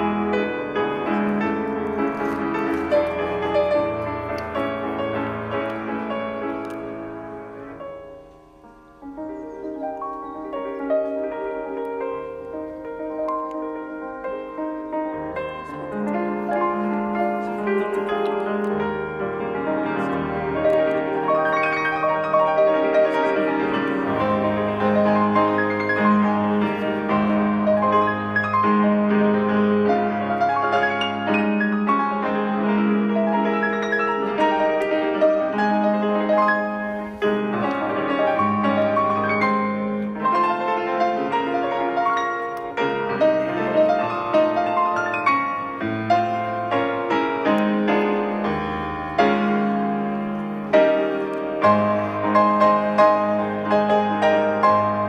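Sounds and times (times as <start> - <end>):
piano background music: 0.0 - 55.0.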